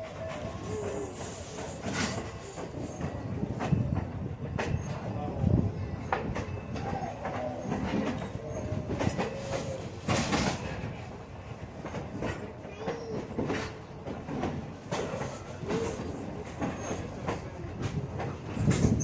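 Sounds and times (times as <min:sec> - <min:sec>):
train wheels clattering on track: 0:00.0 - 0:19.0.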